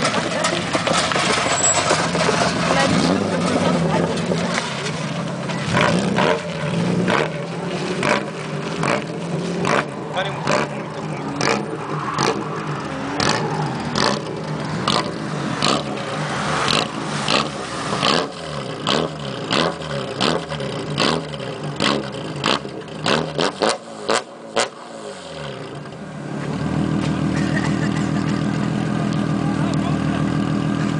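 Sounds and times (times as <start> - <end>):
car engine revving hard: 1.9 - 28.4.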